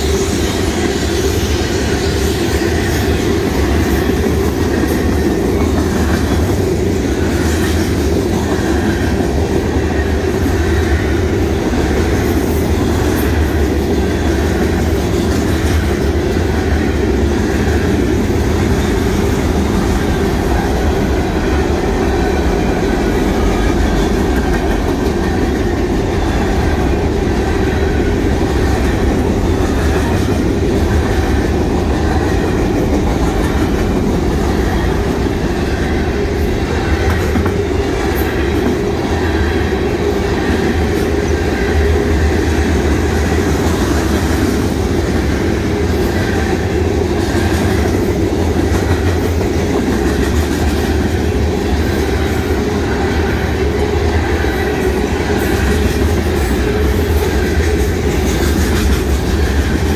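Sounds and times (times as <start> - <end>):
train clickety-clack: 0.0 - 59.9
train wheels rumbling on rails: 0.0 - 59.9.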